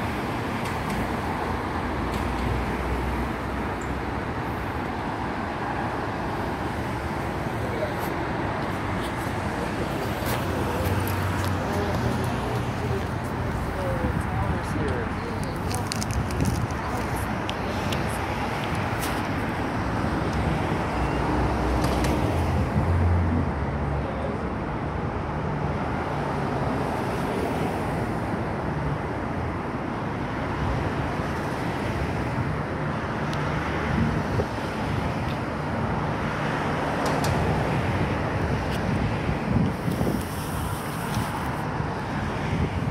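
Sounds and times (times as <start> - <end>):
cars driving past: 0.0 - 42.9.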